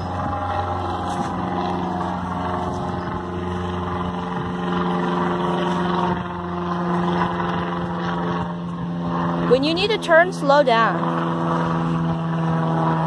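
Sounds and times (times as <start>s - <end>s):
drone propeller hum: 0.0s - 13.0s.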